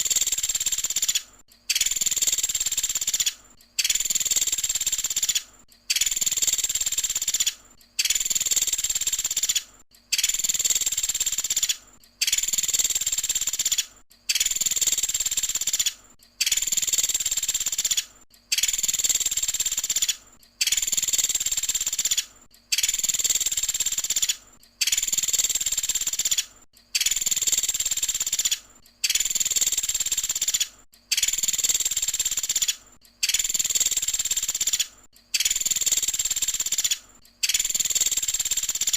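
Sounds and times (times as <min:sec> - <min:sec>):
woodpecker rattling calls: 0:00.0 - 0:38.9.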